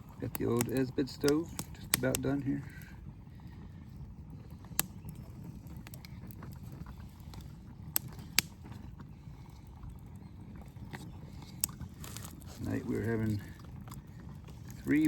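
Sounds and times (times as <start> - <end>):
low rumble of heating water: 0.0 - 15.0.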